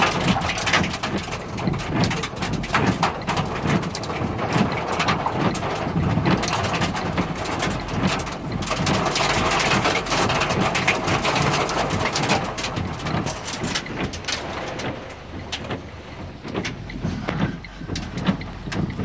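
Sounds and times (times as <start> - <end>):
heavy rain beating on a car: 0.0 - 19.0.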